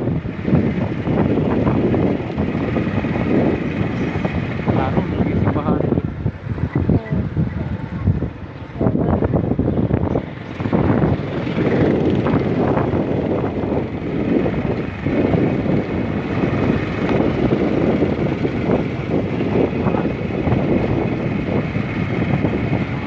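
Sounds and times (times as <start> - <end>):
vehicle engine and road noise: 0.0 - 23.0
wind rumbling on microphone: 0.0 - 23.0.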